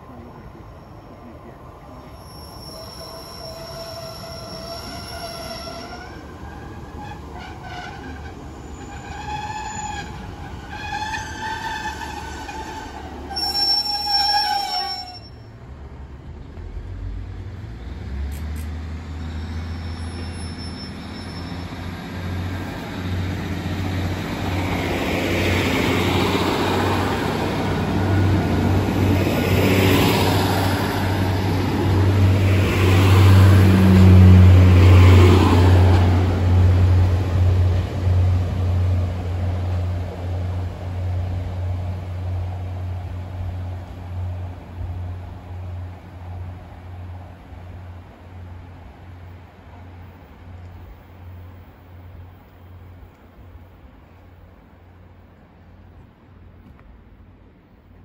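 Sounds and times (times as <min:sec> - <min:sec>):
train engine drone: 0:00.0 - 0:58.0.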